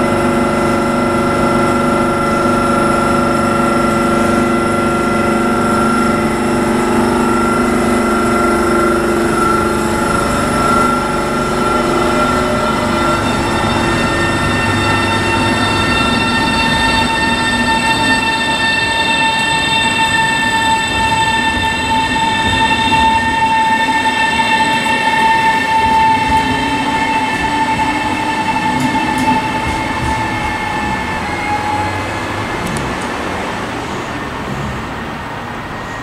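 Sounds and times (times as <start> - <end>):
electric train rumbling: 0.0 - 36.0
high whine of train: 0.0 - 36.0.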